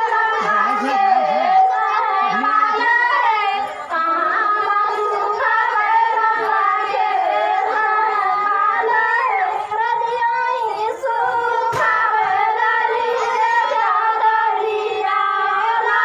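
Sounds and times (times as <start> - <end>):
group of women singing: 0.0 - 16.0.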